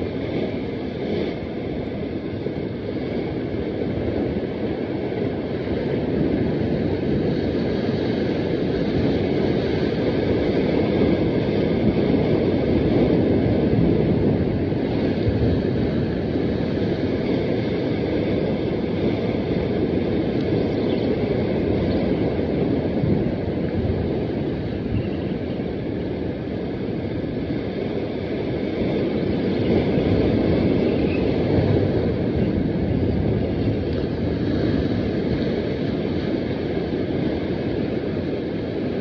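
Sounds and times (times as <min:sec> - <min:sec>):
sea surf on rocks: 0:00.0 - 0:39.0
wind rumbling on microphone: 0:00.0 - 0:39.0.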